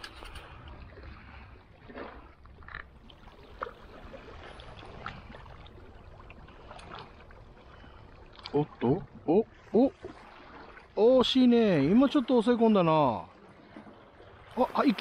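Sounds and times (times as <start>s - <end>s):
waves lapping against rocks: 0.0s - 15.0s.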